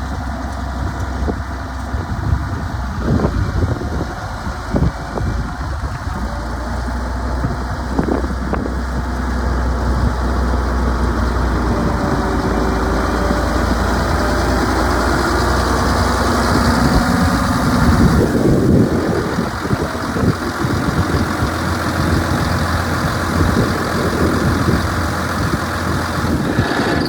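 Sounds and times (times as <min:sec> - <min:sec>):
diesel tractor engine idling: 0:00.0 - 0:27.0.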